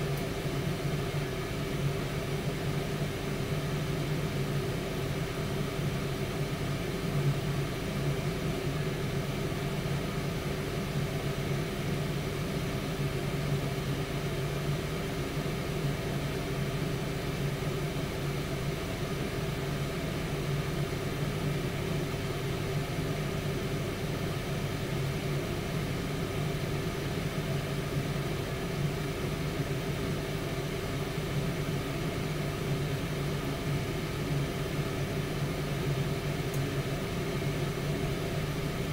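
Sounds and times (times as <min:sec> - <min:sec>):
air fryer fan whir: 0:00.0 - 0:38.9.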